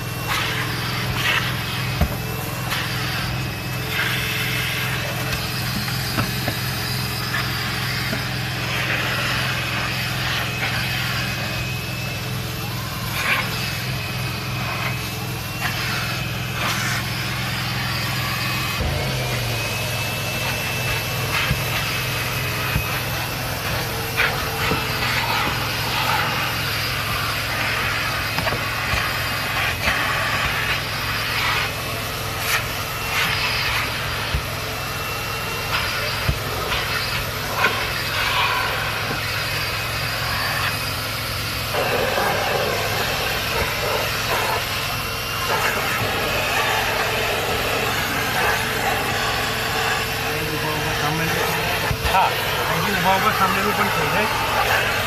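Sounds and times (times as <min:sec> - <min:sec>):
machine motor whining: 0:00.0 - 0:55.0.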